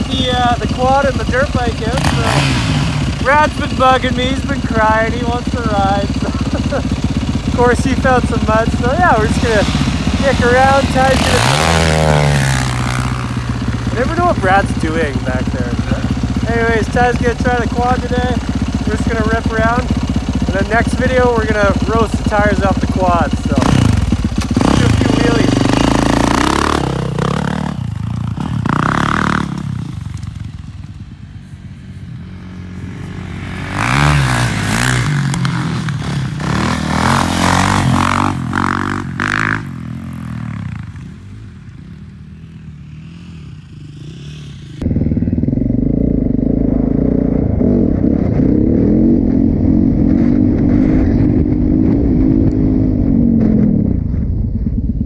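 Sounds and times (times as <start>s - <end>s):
dirt bike engine revving: 0.0s - 54.2s
close dirt bike engine steady: 0.0s - 55.0s.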